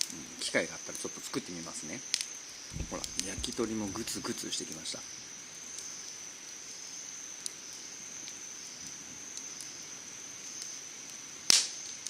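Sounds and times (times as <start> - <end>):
campfire crackling: 0.0 - 12.0
insect trilling: 0.4 - 10.9.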